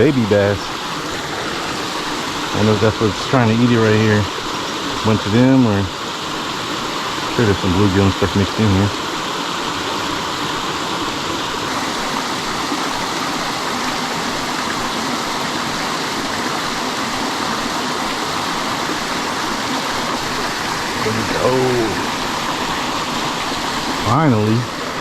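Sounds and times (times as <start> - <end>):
water rushing through spillway: 0.0 - 25.0.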